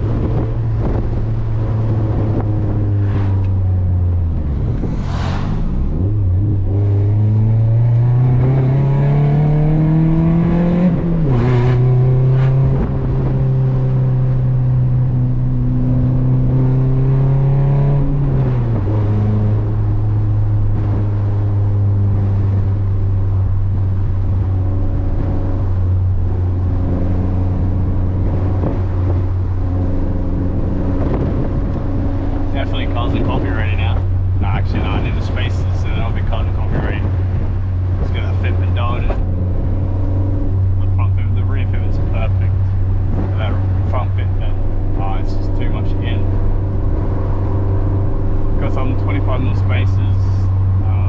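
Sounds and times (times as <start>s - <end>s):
car engine revving through gears: 0.0s - 51.0s.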